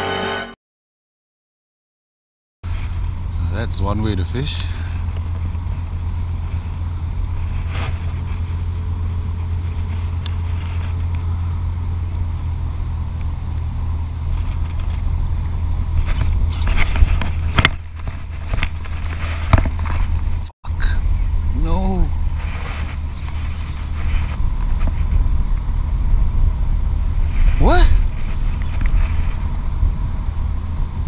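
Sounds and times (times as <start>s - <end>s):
wind buffeting microphone: 2.8s - 31.0s.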